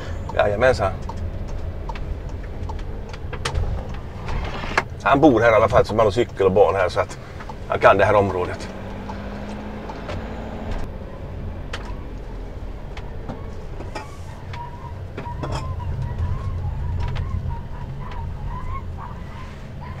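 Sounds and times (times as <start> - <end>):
motorhome engine running: 0.0 - 20.0
road noise: 0.0 - 20.0.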